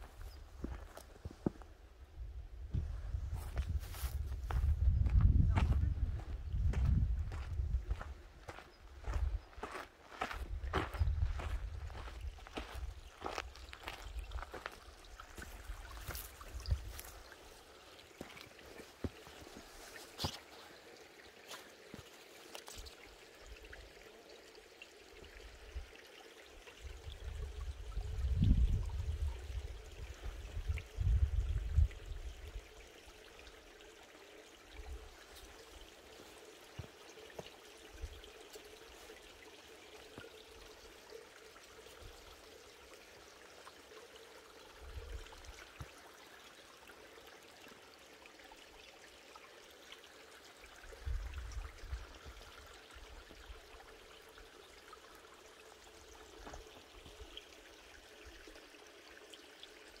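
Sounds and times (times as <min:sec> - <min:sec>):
stream flowing over rocks: 0:06.1 - 1:00.0.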